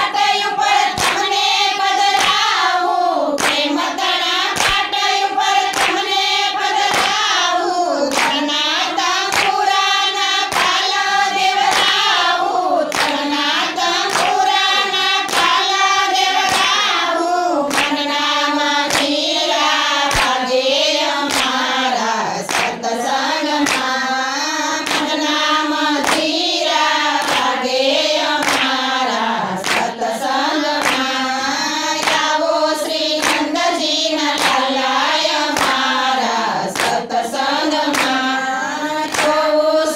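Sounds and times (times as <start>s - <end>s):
hands clapping in a beat: 0.0s - 39.9s
women singing together: 0.0s - 39.9s.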